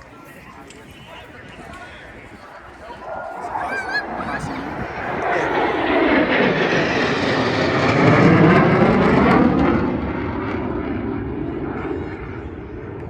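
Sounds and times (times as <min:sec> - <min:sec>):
fighter jets passing low: 0:00.0 - 0:13.0.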